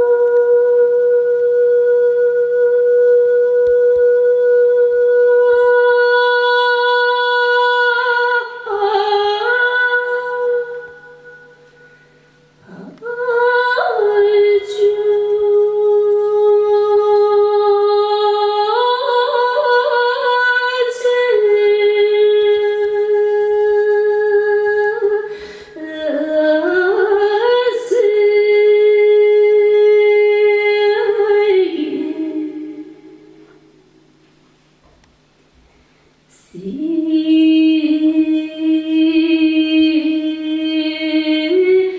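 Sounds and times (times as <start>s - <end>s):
woman singing unaccompanied: 0.0s - 11.7s, 12.6s - 33.4s, 36.3s - 41.9s.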